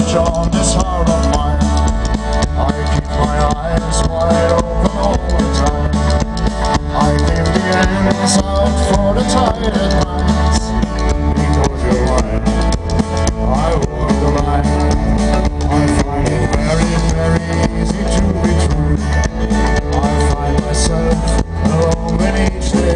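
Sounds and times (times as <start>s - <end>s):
acoustic guitar: 0.0s - 22.9s
drum kit: 0.0s - 22.9s
electric guitar: 0.0s - 22.9s.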